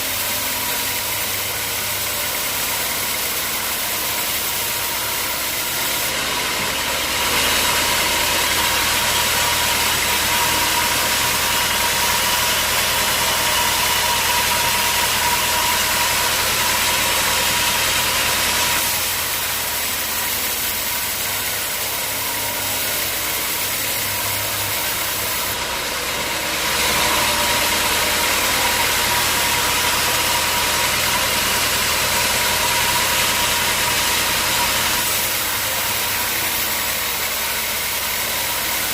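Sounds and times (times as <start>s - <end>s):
high hissing saw cutting: 0.0s - 38.9s
sawmill engine running: 0.0s - 38.9s.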